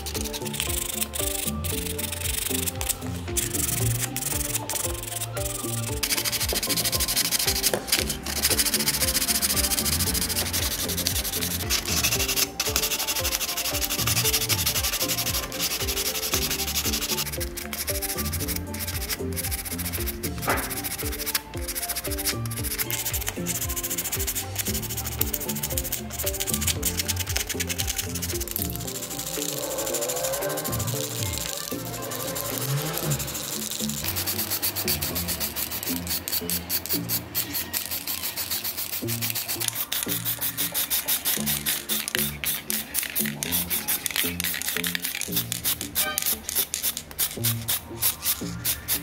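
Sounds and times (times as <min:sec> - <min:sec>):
sandpaper rubbing on plastic: 0:00.0 - 0:49.0.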